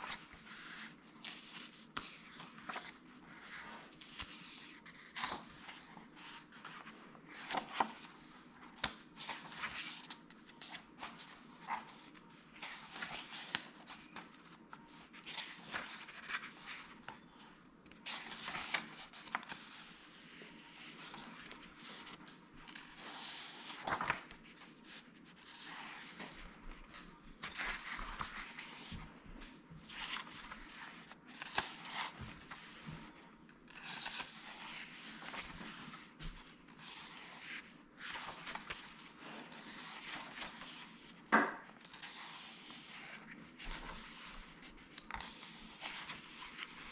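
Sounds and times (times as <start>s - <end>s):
book pages turning: 0.0s - 46.9s.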